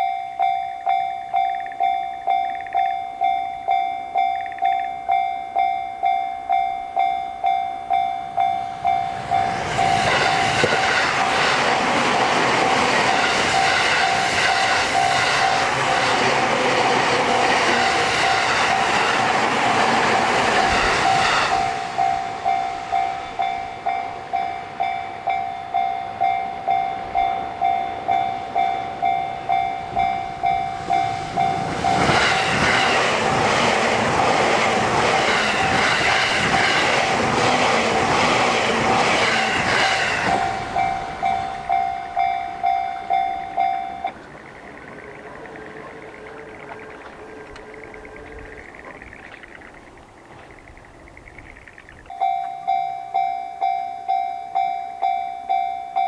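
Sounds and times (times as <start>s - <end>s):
level crossing alarm bell: 0.0s - 48.4s, 52.1s - 56.0s
train passing: 0.0s - 56.0s.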